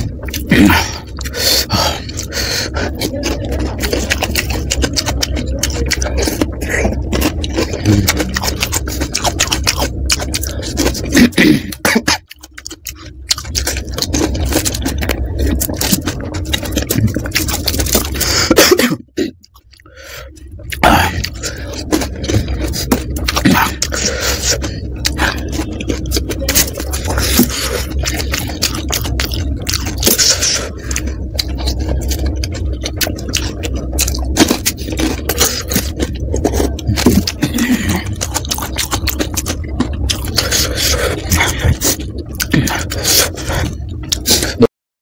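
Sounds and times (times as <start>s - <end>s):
crunchy food chewing: 0.0s - 18.6s, 19.3s - 44.7s.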